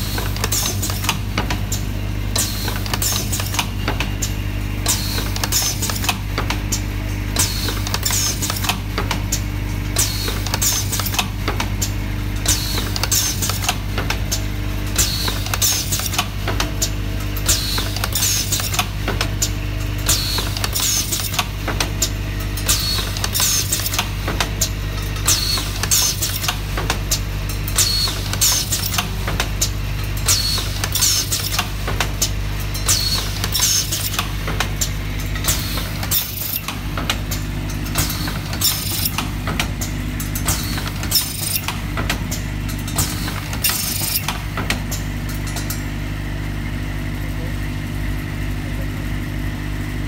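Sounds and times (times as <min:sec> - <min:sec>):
rapid machine clicking: 0:00.0 - 0:45.8
low machine hum: 0:00.0 - 0:50.0.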